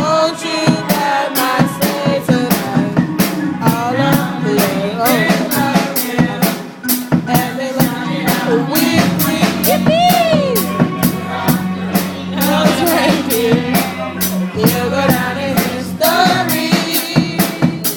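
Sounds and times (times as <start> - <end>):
bass line: 0.0 - 17.9
drum kit beat: 0.0 - 17.9
vocals sliding in pitch: 0.0 - 17.9.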